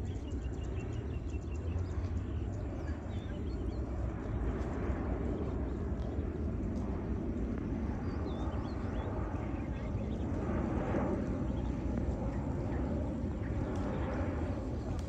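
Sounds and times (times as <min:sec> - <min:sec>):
small birds chirping: 0:00.0 - 0:06.9, 0:07.6 - 0:15.0
distant jet airliner rumble: 0:00.0 - 0:15.0.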